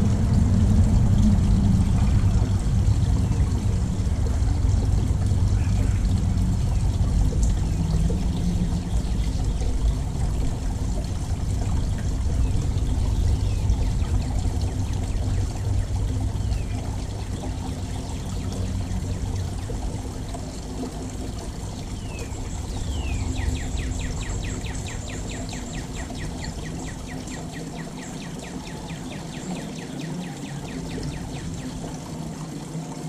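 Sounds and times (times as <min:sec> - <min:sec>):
water pouring and trickling: 0:00.0 - 0:33.0.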